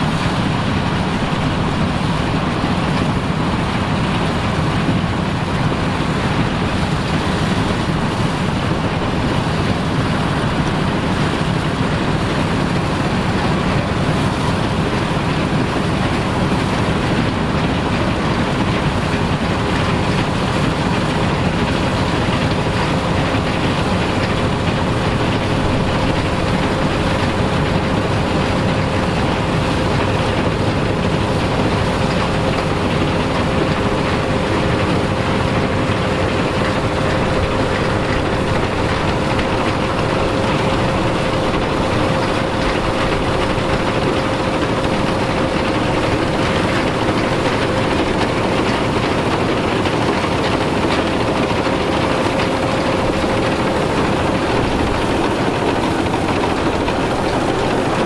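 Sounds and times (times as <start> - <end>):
heavy engine running: 0.0 - 58.0
steady whine: 0.0 - 58.0.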